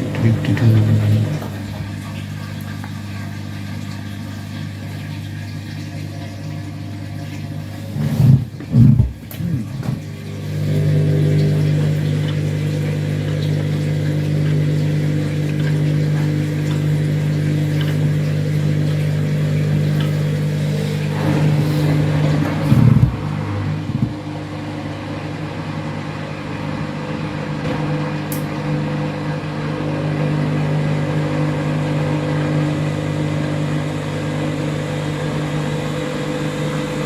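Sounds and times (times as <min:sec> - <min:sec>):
washing machine motor hum: 0:00.0 - 0:37.0.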